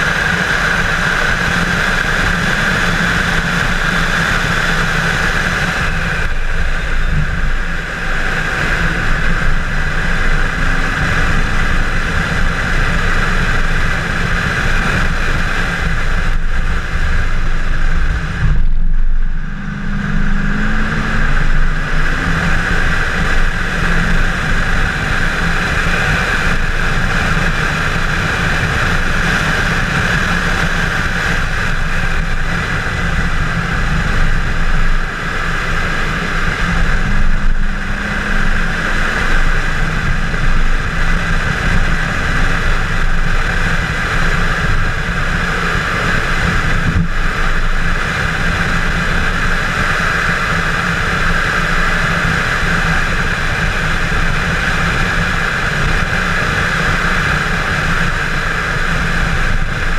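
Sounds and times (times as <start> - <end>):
car engine running hard: 0.0 - 59.9
road and wind noise: 0.0 - 59.9.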